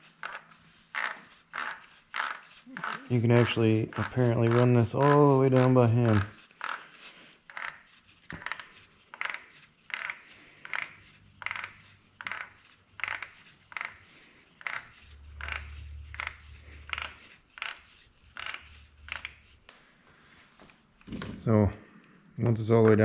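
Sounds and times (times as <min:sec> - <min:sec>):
plastic cap rasping on threads: 0:00.0 - 0:19.7.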